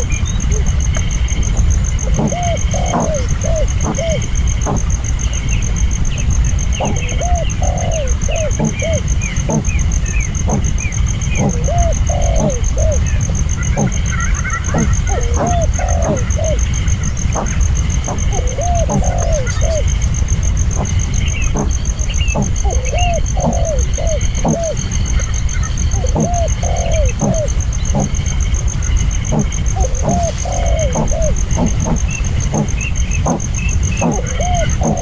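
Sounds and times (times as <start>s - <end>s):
dove cooing: 0.0s - 0.7s, 2.0s - 4.9s, 6.7s - 19.9s, 20.7s - 28.3s, 29.2s - 35.0s
high pulsing buzz: 0.0s - 35.0s
small birds chirping: 0.0s - 35.0s.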